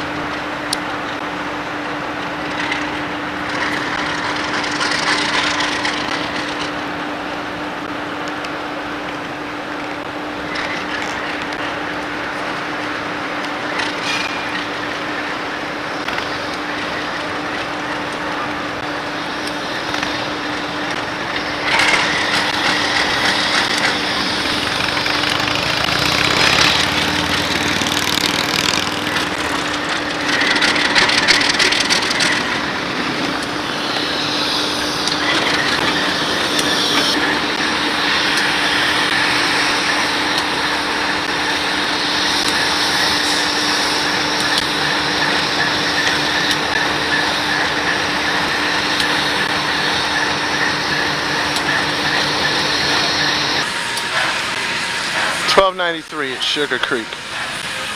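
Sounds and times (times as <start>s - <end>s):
diesel locomotive passing: 0.0s - 57.9s
wheel and rail noise: 0.0s - 57.9s.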